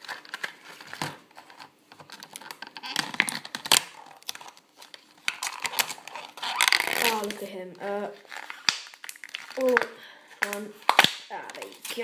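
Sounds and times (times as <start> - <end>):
plastic packaging clicks and crinkles: 0.0 - 12.0.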